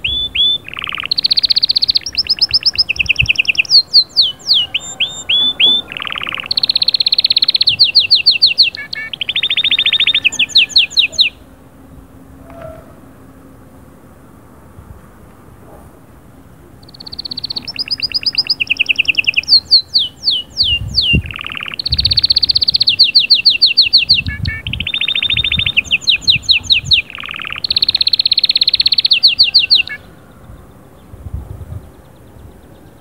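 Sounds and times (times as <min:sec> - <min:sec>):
canary singing: 0:00.0 - 0:13.0, 0:16.8 - 0:31.1.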